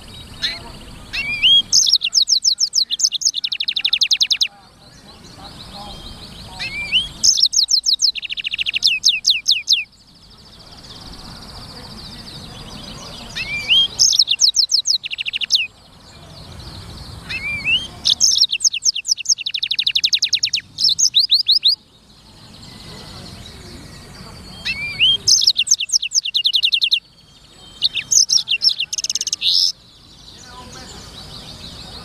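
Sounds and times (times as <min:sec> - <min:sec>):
bird singing trills and whistles: 0:00.0 - 0:32.0.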